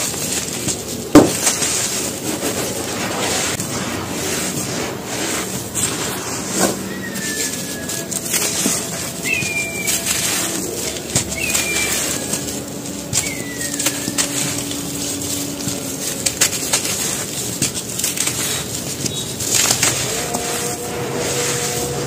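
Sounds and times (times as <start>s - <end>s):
cement crumbs crunching: 0.0s - 22.0s.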